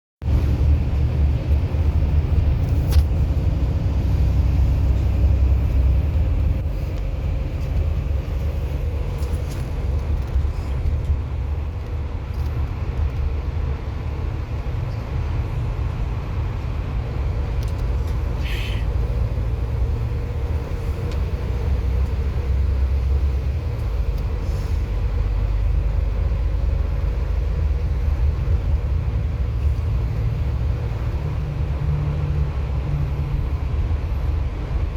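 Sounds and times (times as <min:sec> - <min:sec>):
bus engine and tyres rumbling: 0:00.2 - 0:34.9.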